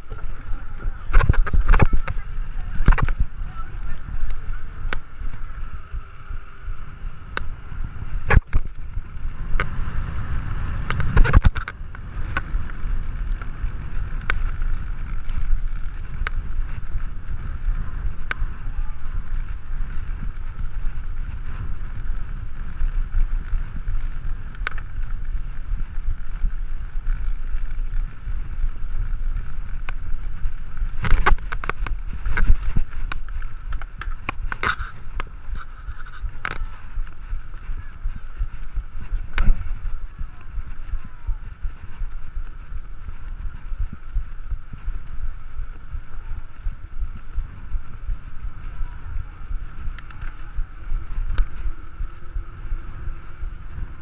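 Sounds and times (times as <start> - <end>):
bike knocking and rattling: 0.0 - 54.0
bike tyres rumbling over ground: 0.0 - 54.0
wind buffeting microphone: 0.0 - 54.0.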